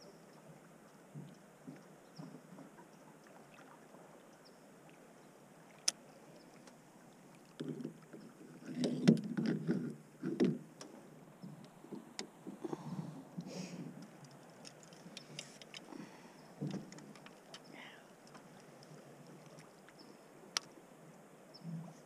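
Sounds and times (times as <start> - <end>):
faint hiss of water and wind: 0.0 - 22.0.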